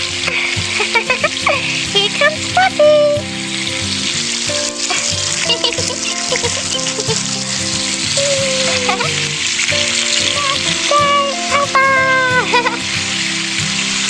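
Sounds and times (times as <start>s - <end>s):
background music: 0.0s - 14.0s
garden hose spraying water: 0.0s - 14.0s.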